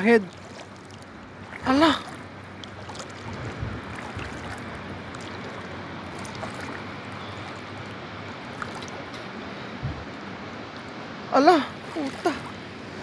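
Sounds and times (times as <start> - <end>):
floodwater sloshing: 0.0 - 13.0.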